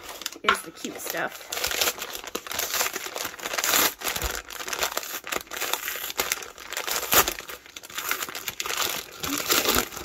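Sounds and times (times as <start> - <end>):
paper mailer crinkling: 0.0 - 10.0
paper tearing: 1.4 - 10.0.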